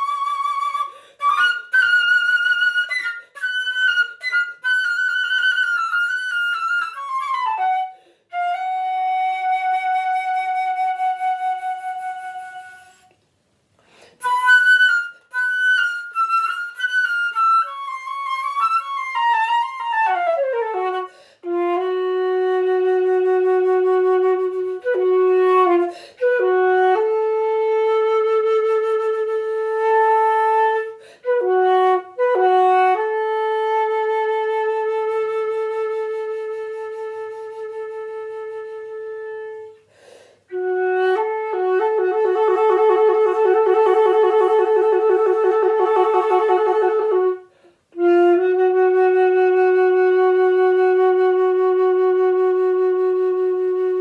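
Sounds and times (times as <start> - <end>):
solo flute: 0.0 - 13.2, 13.8 - 54.0.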